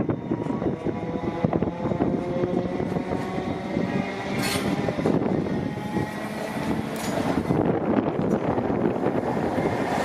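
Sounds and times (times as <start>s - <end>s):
train passing rumble: 0.0s - 10.0s
wheels clattering on track: 1.6s - 10.0s.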